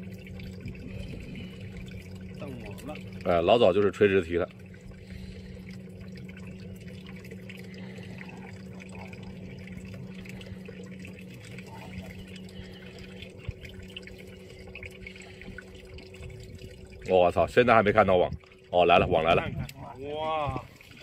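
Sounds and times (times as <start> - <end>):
steady low hum: 0.0 - 21.0
water dripping and trickling: 0.0 - 21.0.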